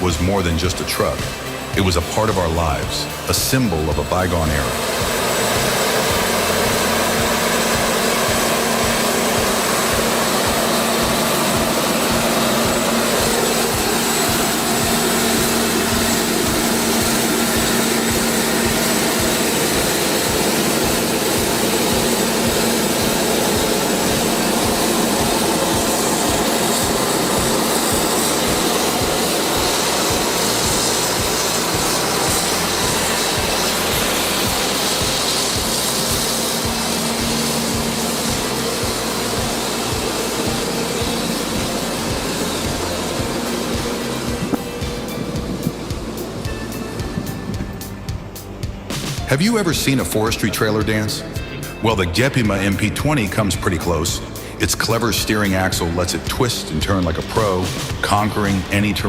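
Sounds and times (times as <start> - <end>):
background music with low beat: 0.0 - 59.0
truck engine running: 0.0 - 59.0.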